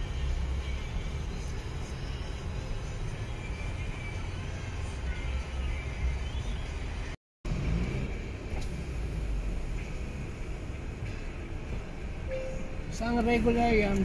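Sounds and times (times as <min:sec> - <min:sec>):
car engine low rumble: 0:00.0 - 0:14.0.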